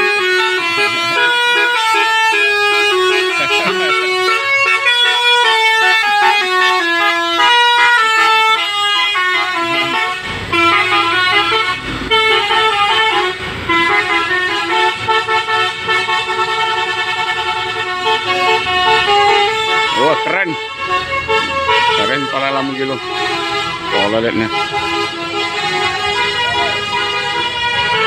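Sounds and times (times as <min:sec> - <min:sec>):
bus engine rumble: 0:00.0 - 0:28.0
musical air horn tune: 0:00.0 - 0:28.0.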